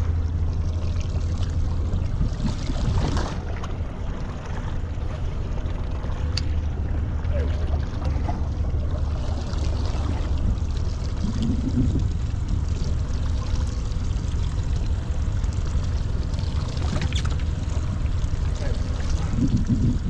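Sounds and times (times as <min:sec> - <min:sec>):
low rumble: 0:00.0 - 0:20.0
water splashing and trickling: 0:00.0 - 0:20.0.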